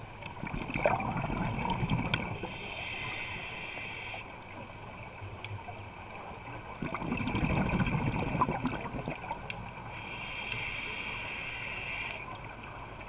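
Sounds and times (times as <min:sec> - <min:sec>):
underwater bubbles gurgling: 0:00.0 - 0:13.0.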